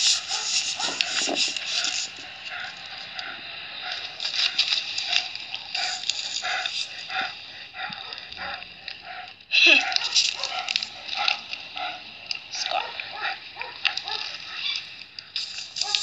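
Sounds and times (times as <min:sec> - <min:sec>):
dog panting: 0:00.0 - 0:14.6.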